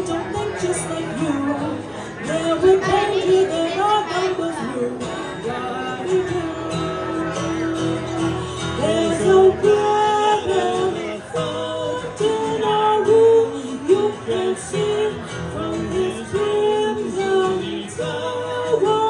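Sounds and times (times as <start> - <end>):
woman singing into a microphone: 0.0 - 7.7, 8.6 - 19.0
strummed acoustic guitar: 0.0 - 19.0.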